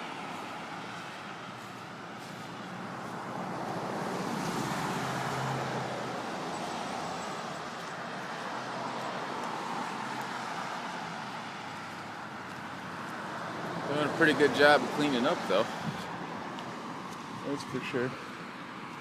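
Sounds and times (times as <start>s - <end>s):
car passing: 0.0s - 19.0s
street noise: 0.0s - 19.0s.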